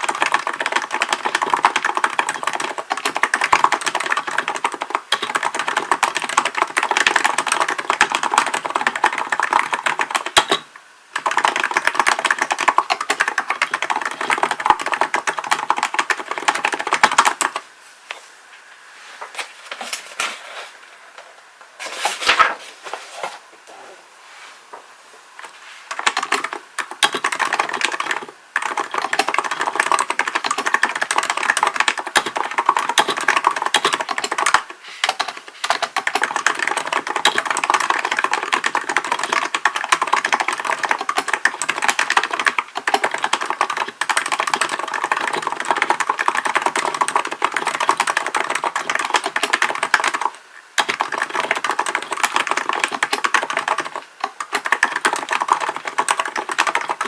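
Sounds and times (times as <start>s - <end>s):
typing on a keyboard: 0.0s - 17.6s, 25.9s - 57.0s.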